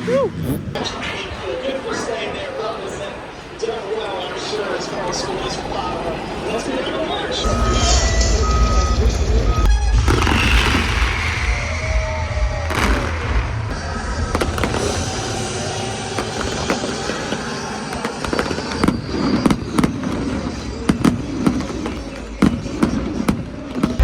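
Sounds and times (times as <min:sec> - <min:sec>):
steady background din: 0:00.0 - 0:24.0
fireworks bangs: 0:00.4 - 0:24.0.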